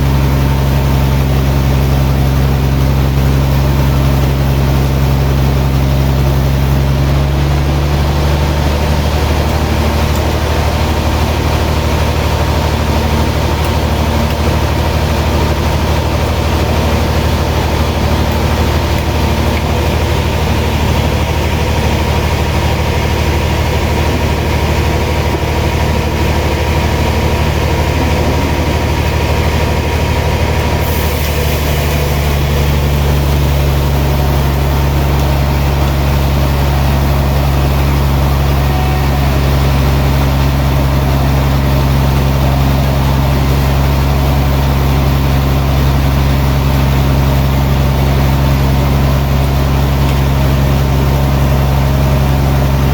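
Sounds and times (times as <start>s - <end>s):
heavy sawmill machinery drone: 0.0s - 52.9s.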